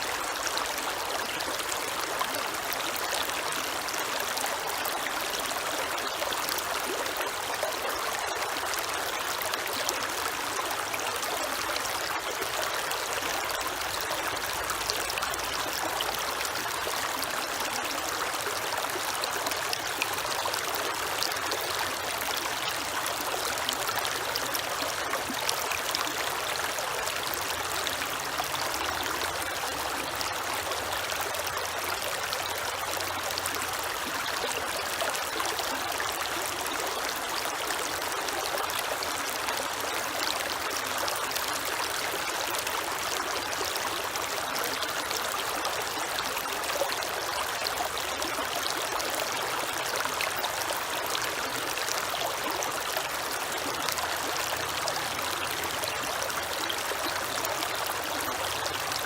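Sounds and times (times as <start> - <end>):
creek water over stones: 0.0 - 59.0.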